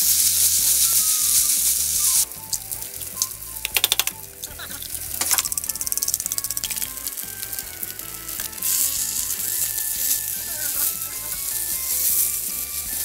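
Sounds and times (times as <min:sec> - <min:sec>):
rice sizzling in a wok: 0:00.0 - 0:03.6, 0:04.2 - 0:13.0.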